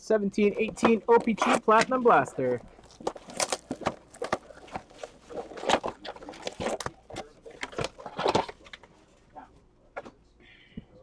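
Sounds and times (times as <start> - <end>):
card packs crinkling: 0.4 - 9.5.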